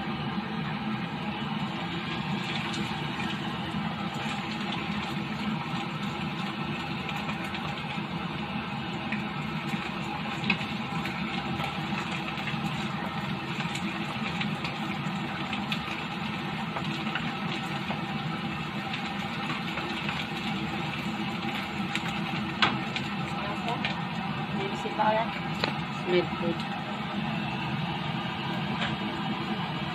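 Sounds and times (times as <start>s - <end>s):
motor-like hum: 0.0s - 29.9s
food sizzling in a wok: 0.6s - 29.9s.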